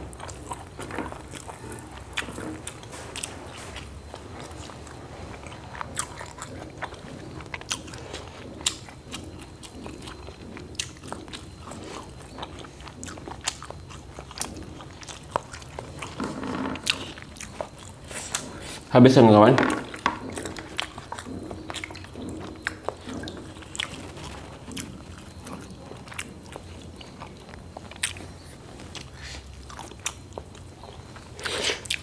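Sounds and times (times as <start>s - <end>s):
person chewing crisp food: 0.0s - 18.9s, 19.8s - 32.0s.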